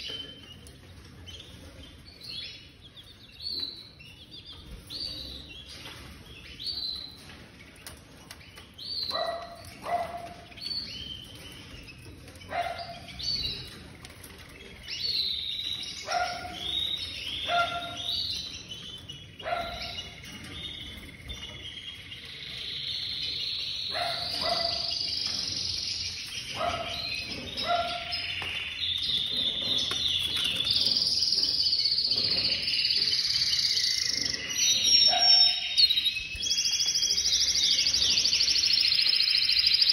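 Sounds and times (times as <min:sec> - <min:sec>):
canaries chirping and warbling: 0:00.0 - 0:39.9.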